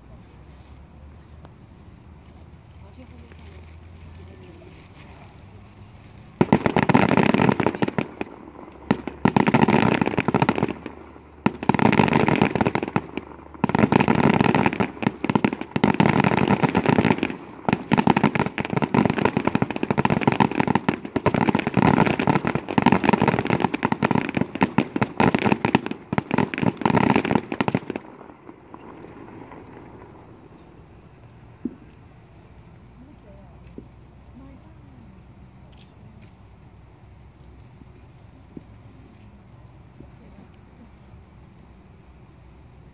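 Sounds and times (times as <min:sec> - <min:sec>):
fireworks crackling: 0:00.0 - 0:42.9.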